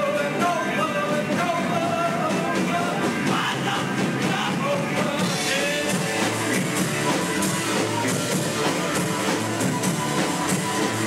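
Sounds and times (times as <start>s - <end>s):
man singing: 0.0s - 9.8s
drum kit: 0.0s - 11.0s
electric guitar: 0.0s - 11.0s.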